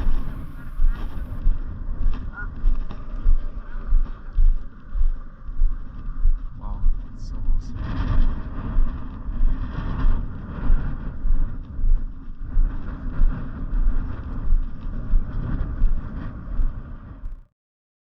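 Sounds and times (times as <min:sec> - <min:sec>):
wind buffeting microphone: 0:00.0 - 0:17.5.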